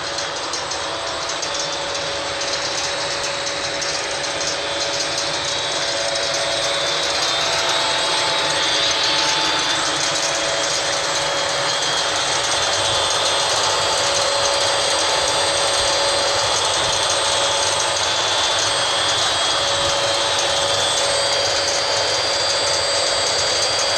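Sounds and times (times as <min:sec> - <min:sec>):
ventilation fan rushing: 0:00.0 - 0:23.9.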